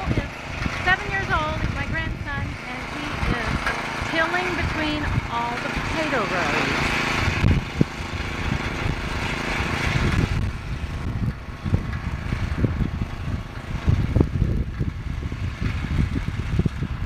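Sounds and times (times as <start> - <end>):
garden tiller engine running: 0.0 - 17.0
low rumbles: 0.0 - 17.0.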